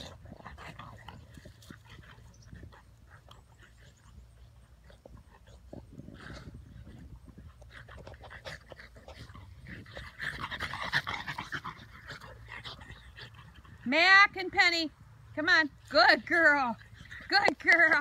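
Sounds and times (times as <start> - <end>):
dogs play-fighting and panting: 0.0 - 13.9, 14.9 - 18.0.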